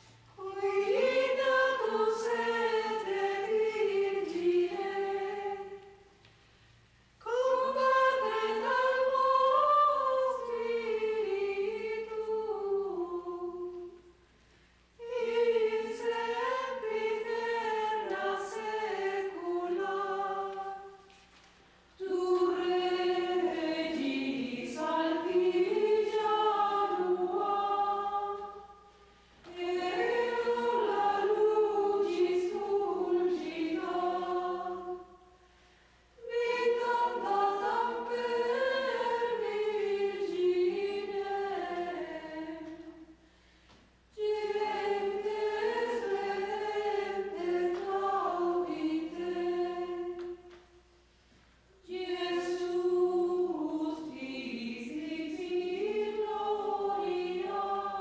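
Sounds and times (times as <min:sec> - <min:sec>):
women's choir singing a hymn: 0:00.0 - 0:06.3, 0:07.2 - 0:14.2, 0:15.0 - 0:50.9, 0:51.7 - 0:58.0.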